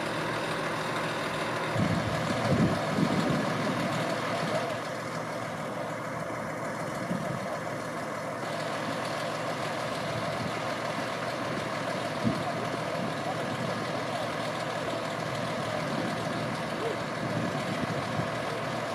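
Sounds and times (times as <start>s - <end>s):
fire engine idling: 0.0s - 18.9s.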